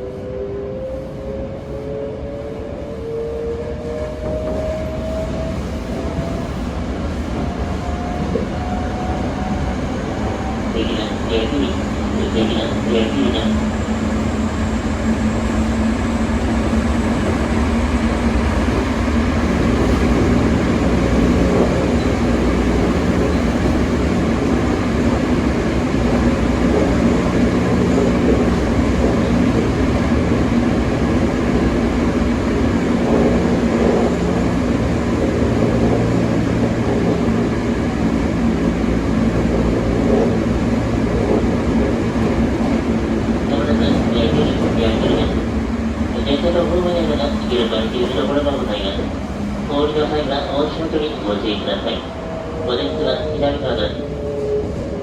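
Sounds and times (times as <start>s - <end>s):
train wheels roaring on rails: 0.0s - 55.0s.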